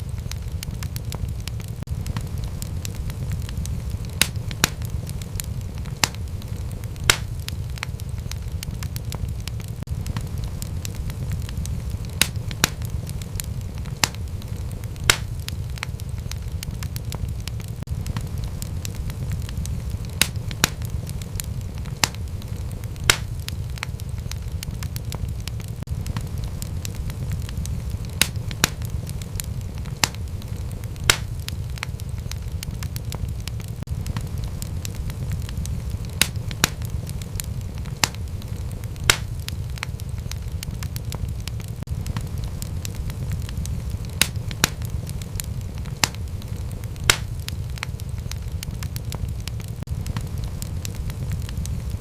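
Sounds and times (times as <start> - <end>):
fire popping and snapping: 0.0 - 52.0
steady low rumble: 0.0 - 52.0
wood fire crackling: 0.0 - 52.0.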